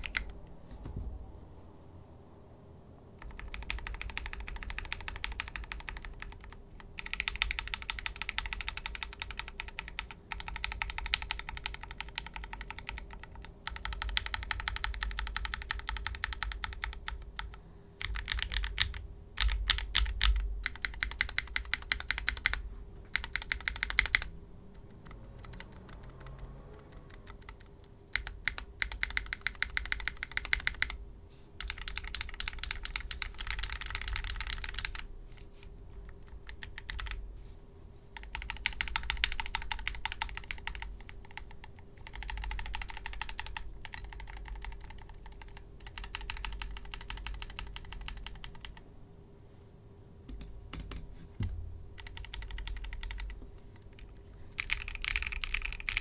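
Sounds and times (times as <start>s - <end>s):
keyboard typing clicks: 0.0s - 0.4s, 3.2s - 31.0s, 31.6s - 35.0s, 36.0s - 37.2s, 38.2s - 48.8s, 50.3s - 51.1s, 52.0s - 53.4s, 54.0s - 56.0s.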